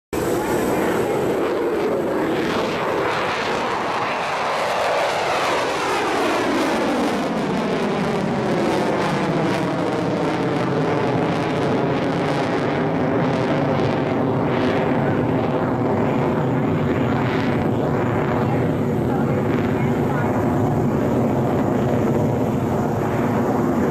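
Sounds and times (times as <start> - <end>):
jet engine passing: 0.2 - 23.9.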